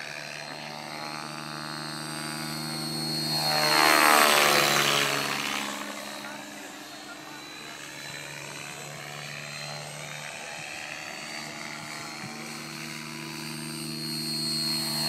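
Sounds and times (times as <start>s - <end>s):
high motor whine: 0.0s - 15.0s
rc helicopter rotor drone: 0.0s - 15.0s.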